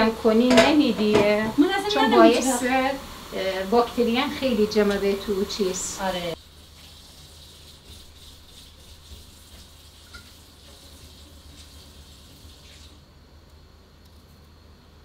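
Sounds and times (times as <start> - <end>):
water running from tap: 0.0 - 13.0.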